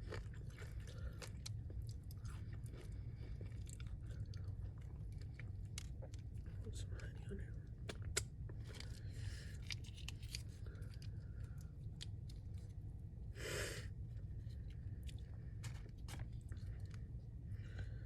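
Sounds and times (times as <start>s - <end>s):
chewing fried food: 0.0s - 13.3s, 13.9s - 18.0s.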